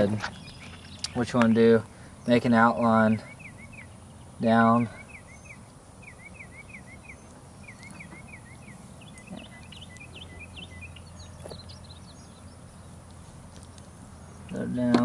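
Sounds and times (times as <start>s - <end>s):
bird chirping: 0.0s - 15.0s
low outdoor rumble: 0.0s - 15.0s.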